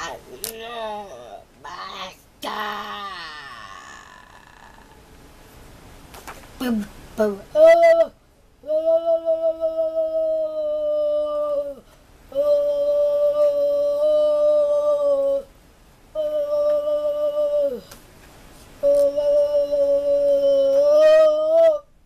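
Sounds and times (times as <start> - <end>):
boy humming: 0.0 - 5.1, 7.5 - 15.5, 16.1 - 17.9, 18.8 - 21.9.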